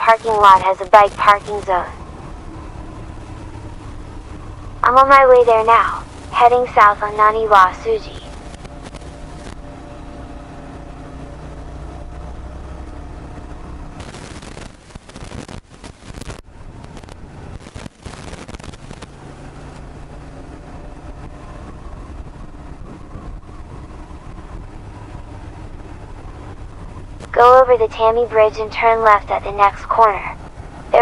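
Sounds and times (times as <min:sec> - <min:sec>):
uneven rushing noise: 0:00.0 - 0:27.7
motorcycle engine running: 0:01.3 - 0:07.4, 0:08.1 - 0:27.4.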